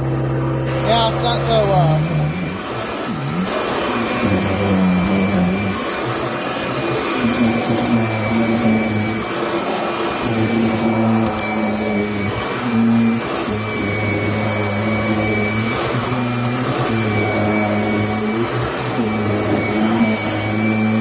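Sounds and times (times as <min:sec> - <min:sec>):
upright vacuum cleaner running: 0:00.0 - 0:21.0.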